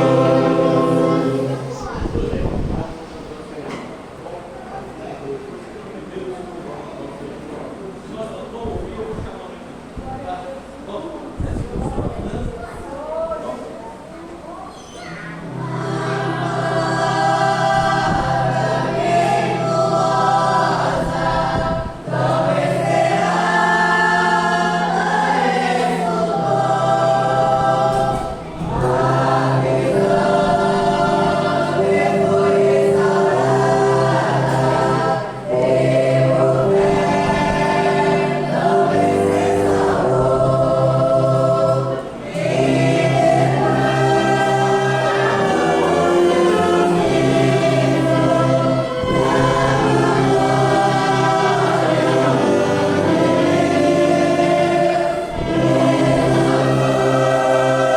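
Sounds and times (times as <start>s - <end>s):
congregation singing a hymn: 0.0s - 14.4s, 15.3s - 57.9s.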